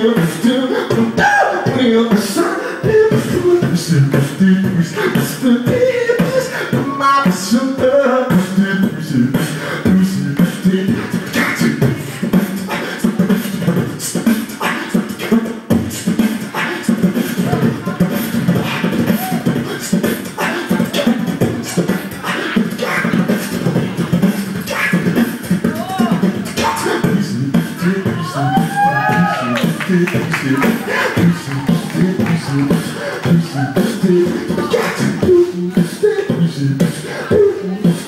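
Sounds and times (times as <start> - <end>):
person beatboxing: 0.0 - 38.0.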